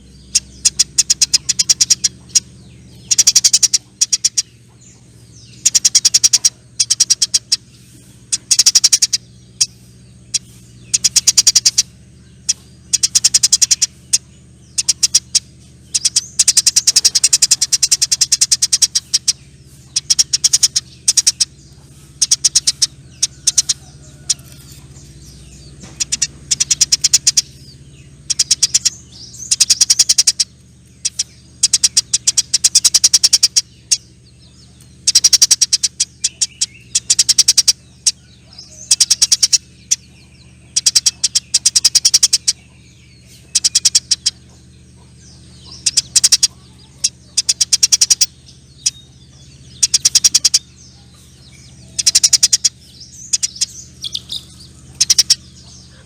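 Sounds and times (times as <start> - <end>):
faint low hum: 0.0 - 56.0
sparrow chattering trills: 0.0 - 56.0.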